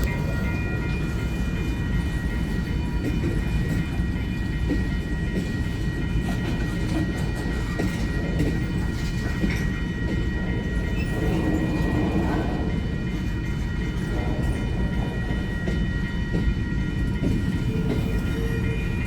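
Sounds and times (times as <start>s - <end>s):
freight train rumbling past: 0.0s - 19.0s
wheels clacking on rails: 0.0s - 19.0s.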